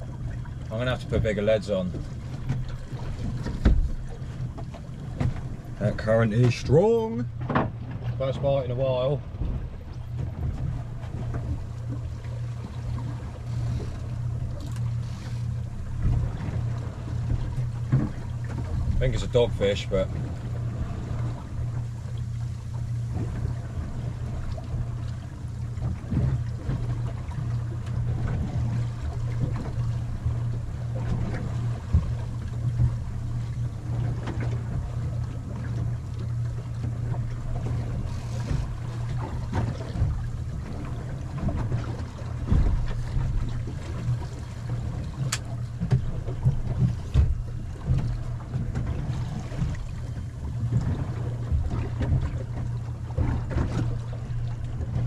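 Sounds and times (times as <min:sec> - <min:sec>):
steady low rumble: 0:00.0 - 0:55.0
water slapping against boat hull: 0:00.0 - 0:55.0.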